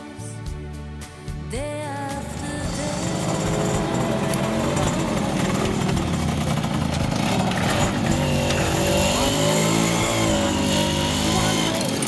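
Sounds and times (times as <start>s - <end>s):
small motorcycle engine running: 2.3s - 12.0s.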